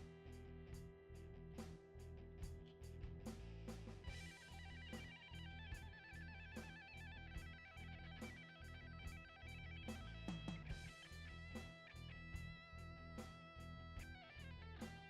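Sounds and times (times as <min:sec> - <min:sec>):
music with drums bass and plucked strings: 0:00.0 - 0:15.0.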